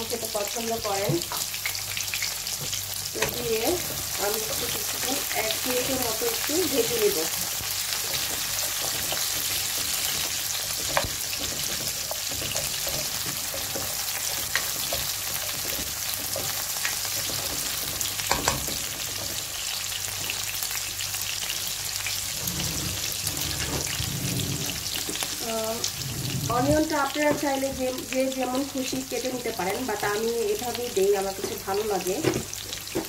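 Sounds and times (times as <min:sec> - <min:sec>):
vegetables sizzling in hot oil: 0:00.0 - 0:33.0.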